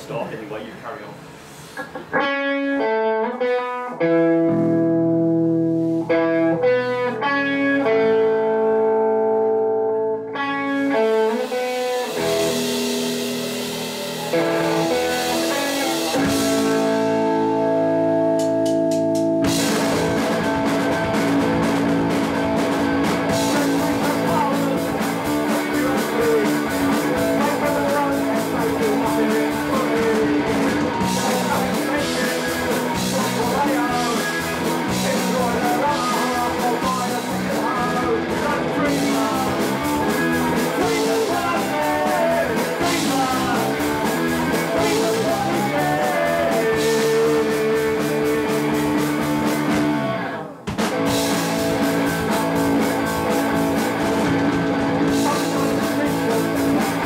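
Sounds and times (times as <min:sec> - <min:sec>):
bass guitar: 0:01.2 - 0:57.0
electric guitar: 0:01.2 - 0:57.0
drum kit: 0:10.8 - 0:57.0.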